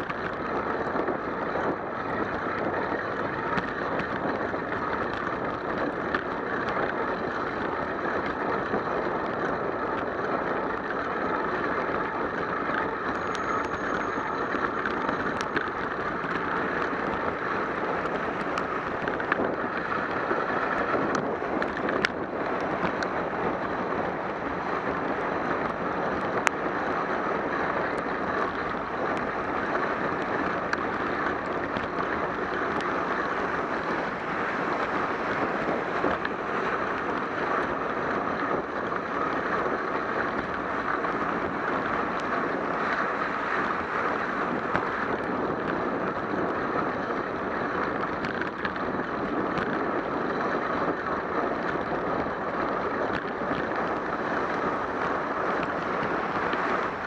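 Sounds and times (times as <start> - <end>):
wind buffeting microphone: 0.0 - 57.0
bicycle tyres hissing on wet road: 0.3 - 57.0.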